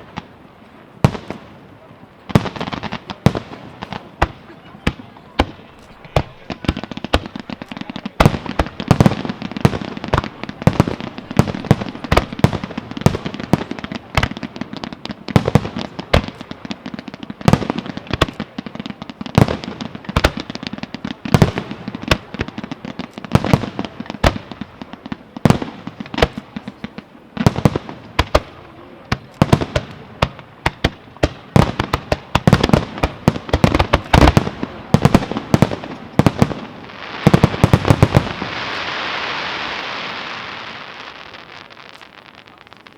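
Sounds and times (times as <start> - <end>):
fireworks bursting: 0.0 - 42.9
fireworks crackling: 0.0 - 42.9.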